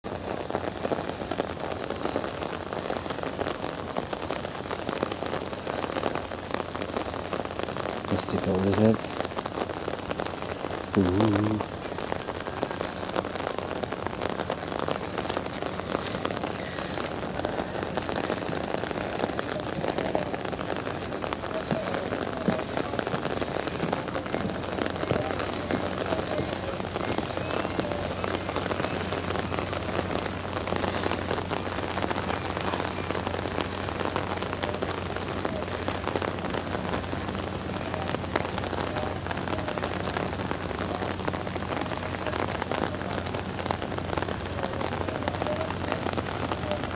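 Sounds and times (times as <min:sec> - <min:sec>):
raindrops ticking close: 0:00.0 - 0:46.9
steady rain: 0:00.0 - 0:46.9.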